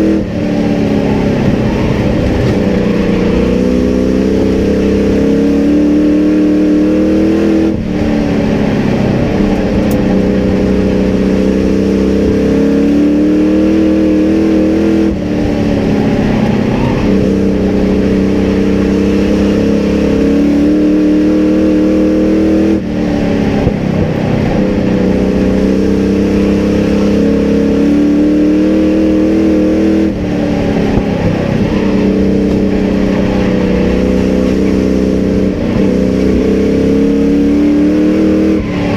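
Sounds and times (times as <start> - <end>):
racing truck engine revving: 0.0 - 38.9.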